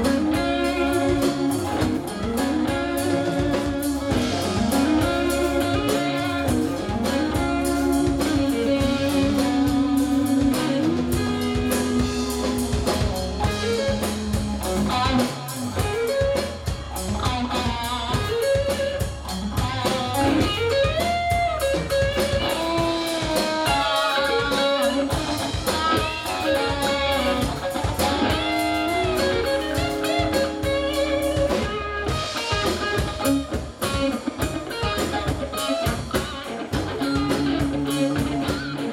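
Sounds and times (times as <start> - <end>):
bass guitar: 0.0 - 38.9
drum kit: 0.0 - 38.9
electric guitars: 0.0 - 38.9
lead guitar bending notes: 0.0 - 38.9.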